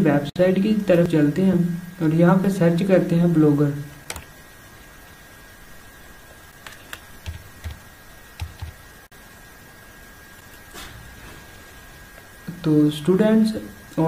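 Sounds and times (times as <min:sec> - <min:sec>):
faint high hum and hiss: 0:00.0 - 0:14.0.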